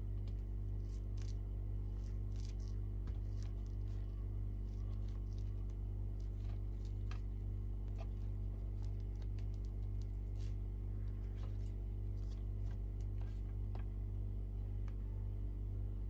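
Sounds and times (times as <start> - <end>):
steady low hum: 0.0 - 16.0
knife cutting crusty pastry: 0.2 - 13.6.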